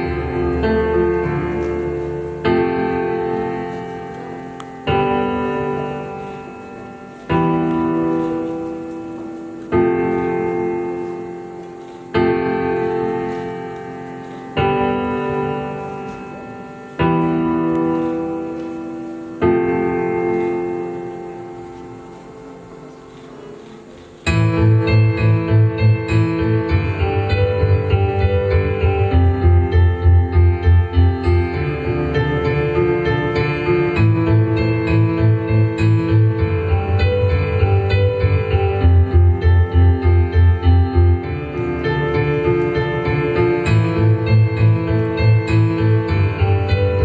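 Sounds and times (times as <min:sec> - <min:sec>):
piano chords ringing: 0:00.0 - 0:47.0.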